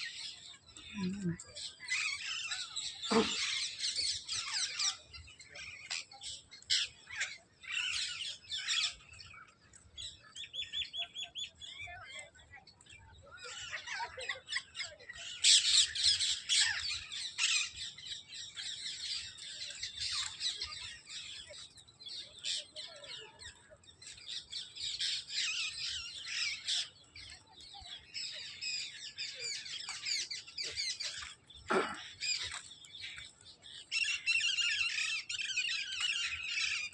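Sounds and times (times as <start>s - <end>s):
flock of birds chattering: 0.0s - 36.9s.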